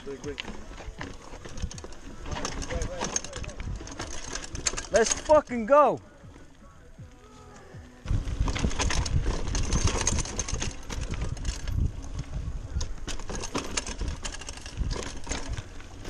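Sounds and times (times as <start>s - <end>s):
mountain bike rattling over rocks: 0.0s - 6.0s, 8.0s - 16.0s.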